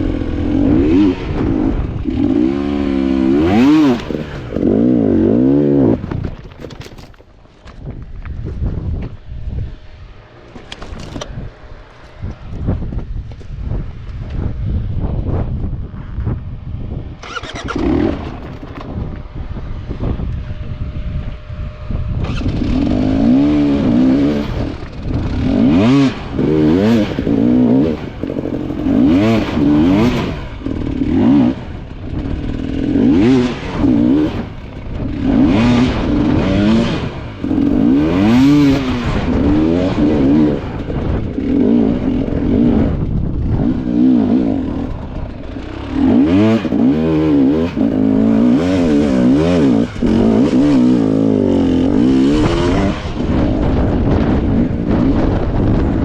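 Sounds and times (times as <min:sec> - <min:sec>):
two-stroke dirt bike engine revving: 0:00.0 - 0:06.3, 0:16.8 - 0:56.0.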